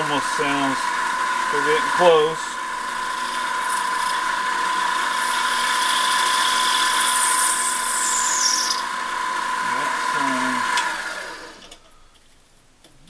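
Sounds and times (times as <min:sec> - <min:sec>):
lathe motor whine: 0:00.0 - 0:11.8.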